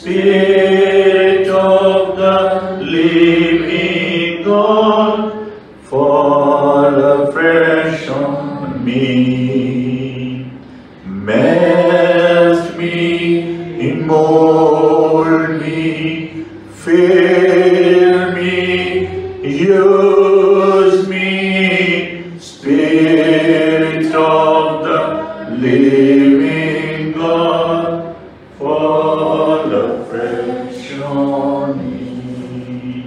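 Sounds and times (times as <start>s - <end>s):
voices singing a slow hymn: 0.0s - 33.0s.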